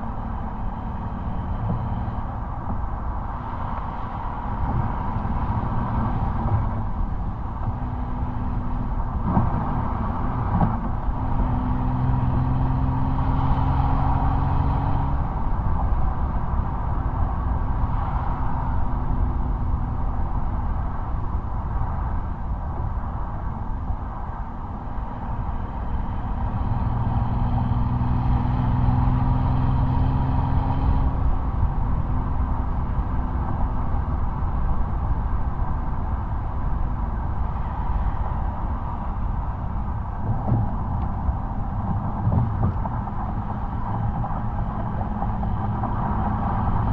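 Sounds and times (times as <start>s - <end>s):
car exhaust rumble: 0.0s - 46.9s
road and wind noise: 0.0s - 46.9s.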